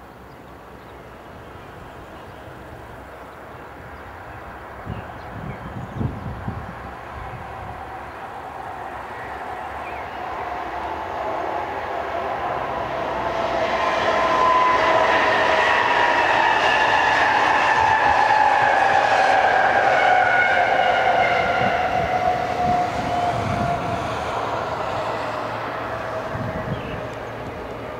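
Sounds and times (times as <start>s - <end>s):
electric train whine: 0.0s - 27.9s
train wheels rumbling on rails: 0.0s - 27.9s.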